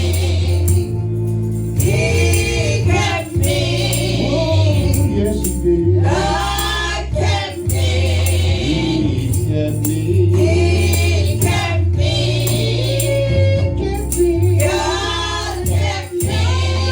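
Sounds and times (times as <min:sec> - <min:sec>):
bass line: 0:00.0 - 0:16.9
choir singing gospel song: 0:00.0 - 0:16.9
light percussion: 0:00.0 - 0:16.9.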